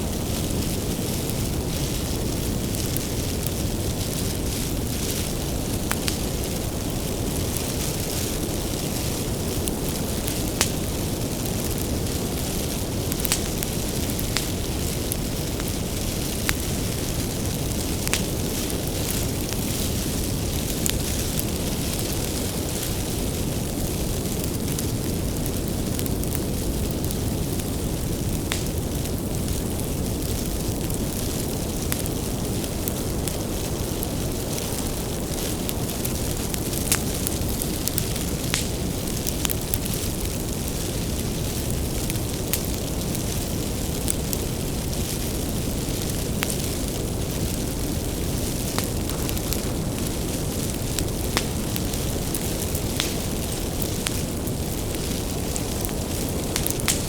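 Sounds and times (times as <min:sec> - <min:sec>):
fire crackling and popping: 0:00.0 - 0:57.0
low rush of flames: 0:00.0 - 0:57.0.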